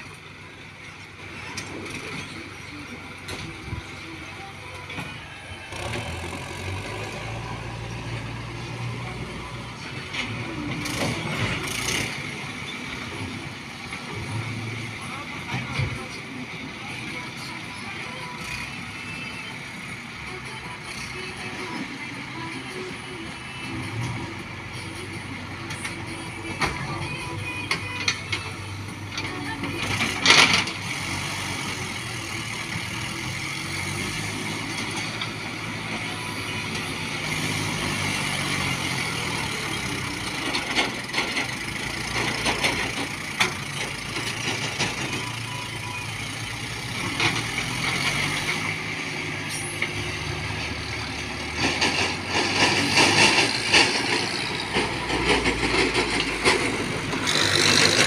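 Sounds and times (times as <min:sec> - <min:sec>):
diesel engines revving: 0:00.0 - 0:58.0.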